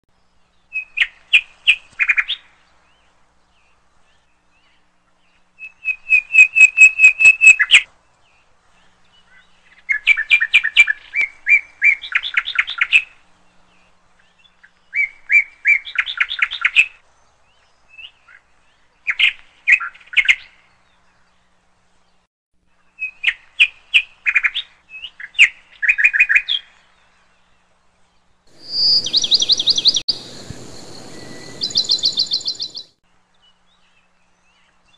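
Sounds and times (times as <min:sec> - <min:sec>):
songbird chirping and trilling: 0:00.1 - 0:34.9.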